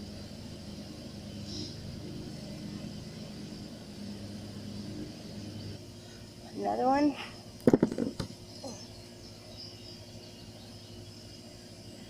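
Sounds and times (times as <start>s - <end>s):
high-pitched insect drone: 0.0s - 12.0s
low engine hum: 0.0s - 12.0s.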